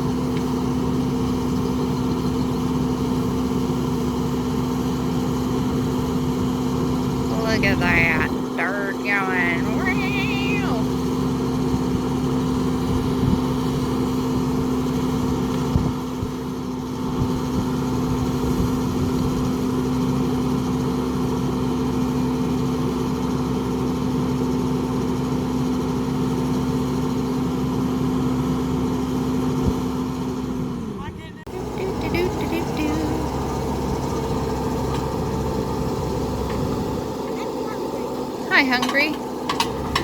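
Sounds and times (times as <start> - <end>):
stump grinder engine running: 0.0 - 40.0.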